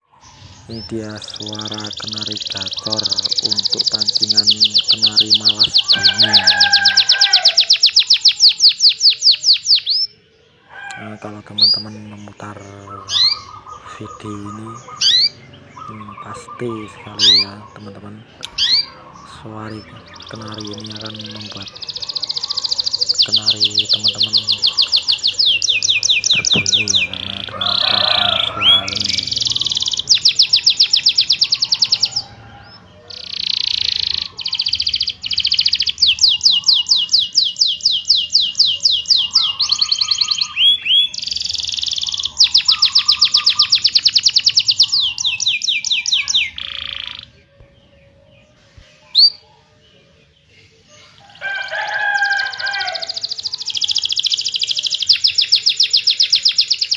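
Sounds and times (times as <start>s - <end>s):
bird chirps: 0.0s - 56.9s
canary singing trills: 0.0s - 56.9s.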